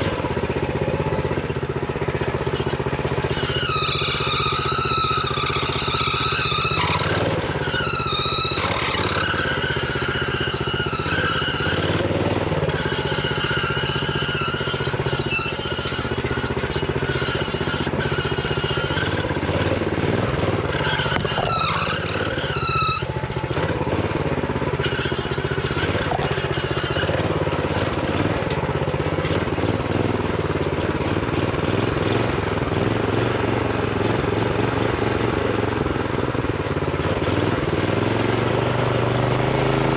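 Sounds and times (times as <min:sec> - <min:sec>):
minibike engine revving: 0:00.0 - 0:39.9.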